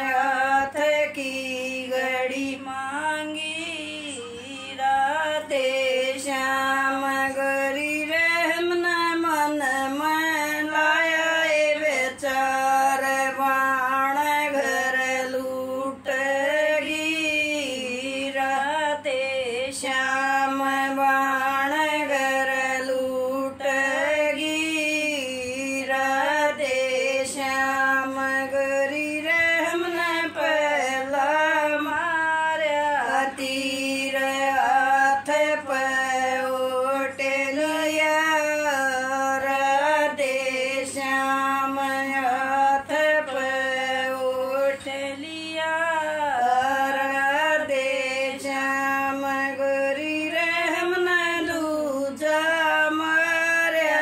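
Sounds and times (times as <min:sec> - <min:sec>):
faint steady hum: 0:00.0 - 0:54.0
woman singing unaccompanied: 0:00.0 - 0:54.0.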